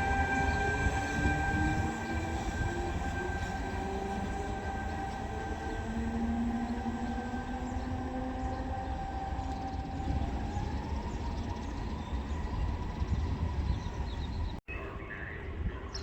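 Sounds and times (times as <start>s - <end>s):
electric train rumbling: 0.0s - 14.6s.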